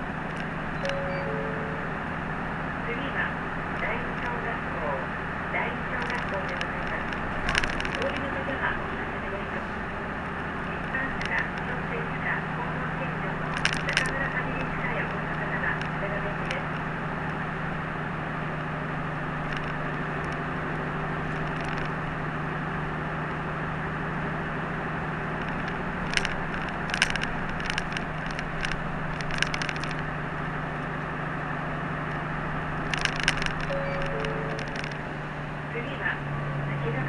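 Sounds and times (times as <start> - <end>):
sharp clicks and rattles: 0.0 - 36.2
bus engine hum and road noise: 0.0 - 37.0.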